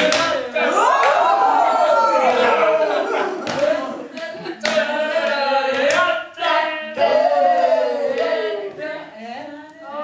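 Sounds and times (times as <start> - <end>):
voices vocalizing together: 0.0 - 10.0.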